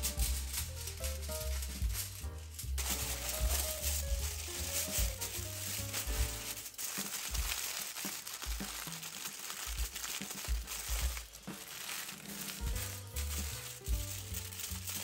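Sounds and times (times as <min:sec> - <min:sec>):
aluminium foil crinkling: 0:00.0 - 0:15.0
soft background music: 0:00.0 - 0:15.0.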